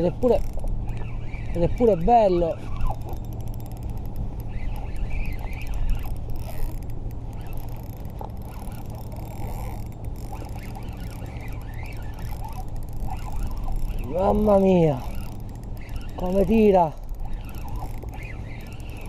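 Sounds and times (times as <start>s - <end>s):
fishing reel cranking: 0.0s - 19.0s
faint short squeaks: 0.4s - 14.1s, 15.0s - 19.0s.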